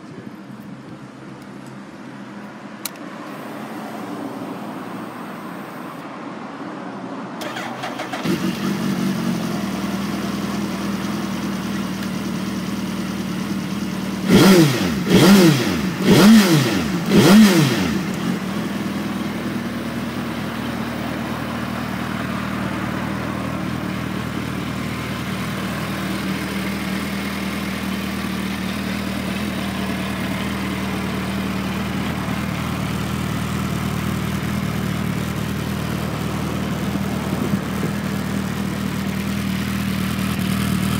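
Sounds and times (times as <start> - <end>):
motorcycle engine idling: 7.4 - 40.9
motorcycle engine revving: 7.4 - 40.9.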